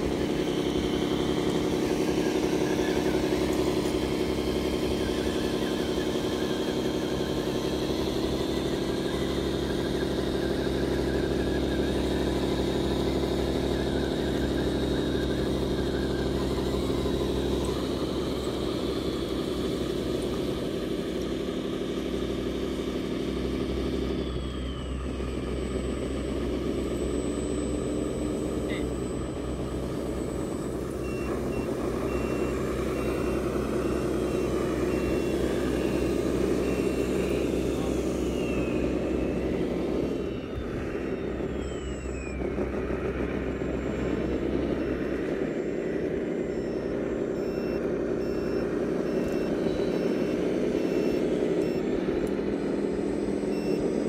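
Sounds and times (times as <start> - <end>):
reversing beeper: 0.0 - 54.0
simulated diesel engine: 0.0 - 54.0.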